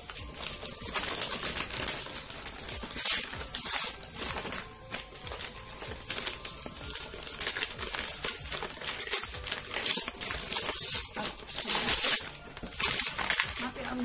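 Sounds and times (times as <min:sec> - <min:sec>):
wrapping paper rustling and tearing: 0:00.0 - 0:14.0.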